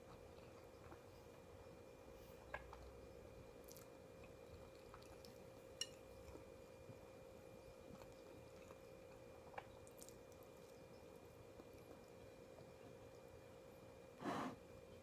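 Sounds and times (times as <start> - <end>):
quiet chewing with mouth clicks: 0.0 - 14.0
faint electrical hum: 0.0 - 15.0.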